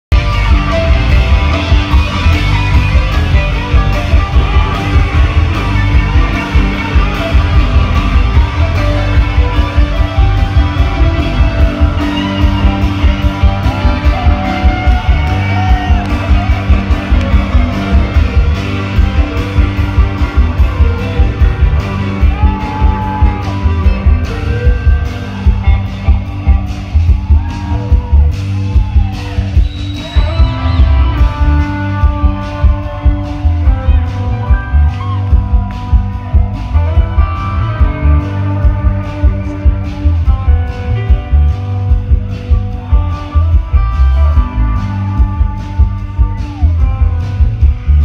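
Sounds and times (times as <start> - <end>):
electric guitar: 0.1 - 48.0
fast steady drumbeat: 0.1 - 48.0.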